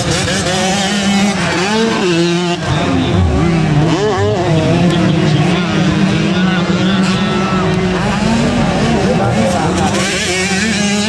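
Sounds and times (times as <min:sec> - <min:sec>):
motocross engines revving: 0:00.0 - 0:11.0.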